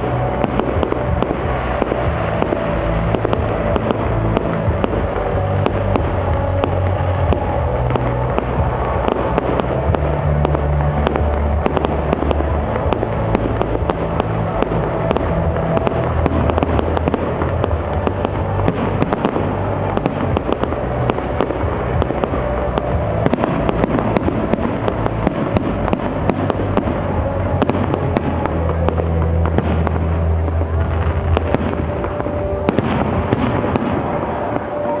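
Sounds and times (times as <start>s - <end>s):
fireworks crackling bangs: 0.0s - 35.0s.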